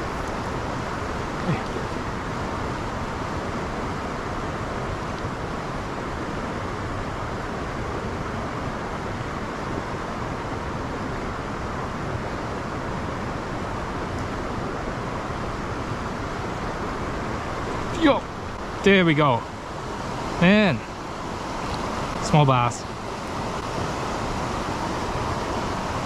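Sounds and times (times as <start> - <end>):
low traffic hum: 0.0 - 26.0
river water rushing: 0.0 - 26.0.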